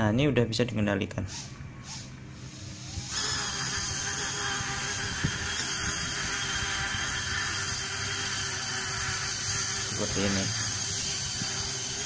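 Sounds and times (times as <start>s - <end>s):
drone motors whining: 1.3s - 12.0s.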